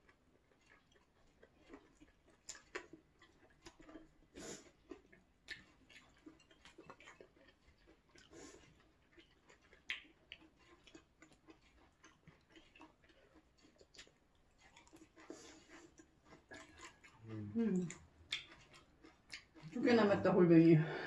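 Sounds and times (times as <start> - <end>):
soft chewing: 0.0 - 21.0.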